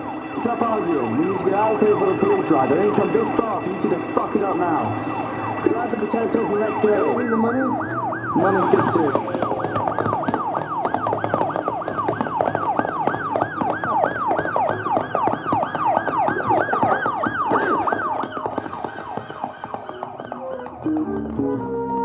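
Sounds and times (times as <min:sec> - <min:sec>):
police siren yelping: 0:00.0 - 0:22.0.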